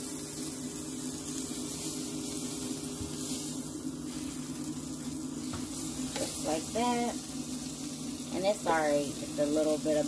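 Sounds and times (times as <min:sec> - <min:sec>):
air fryer humming: 0:00.0 - 0:10.0
pancakes sizzling in a pan: 0:00.0 - 0:10.0.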